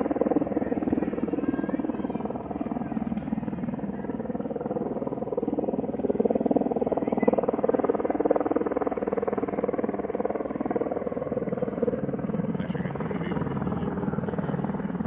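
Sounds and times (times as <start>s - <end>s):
helicopter rotor beating: 0.0s - 15.0s.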